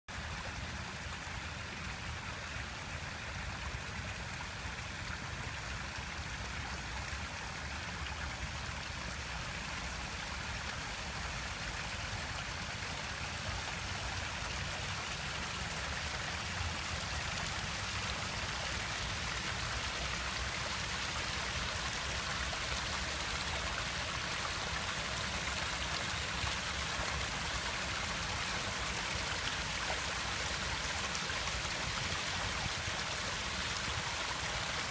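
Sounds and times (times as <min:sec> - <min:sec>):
stream rushing over rocks: 0:00.1 - 0:34.9
water splashing down a cascade: 0:00.1 - 0:34.9.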